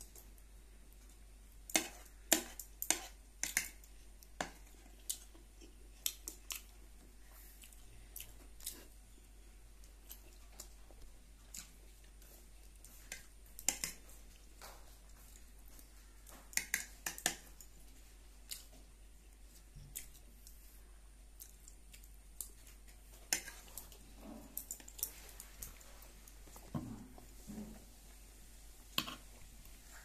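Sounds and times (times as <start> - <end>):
soft chewing: 0.0 - 30.0.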